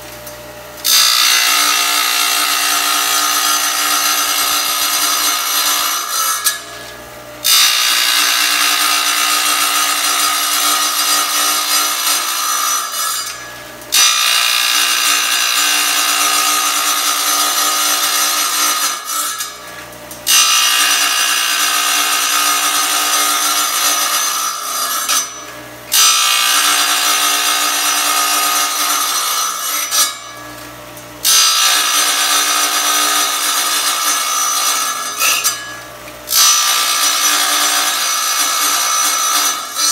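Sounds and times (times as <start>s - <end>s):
tile saw grinding tile: 0.8s - 30.6s, 31.2s - 39.9s.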